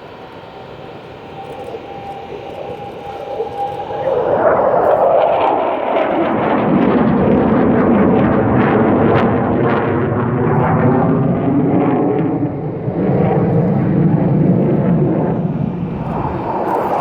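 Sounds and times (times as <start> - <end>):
jet engines roaring past: 0.0 - 17.0.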